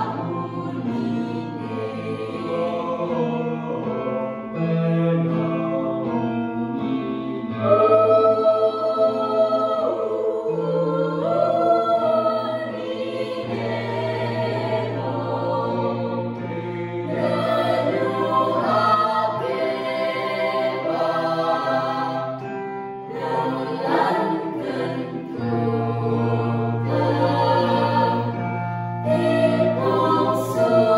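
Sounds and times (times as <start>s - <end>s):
choir singing in parts: 0.0s - 30.9s.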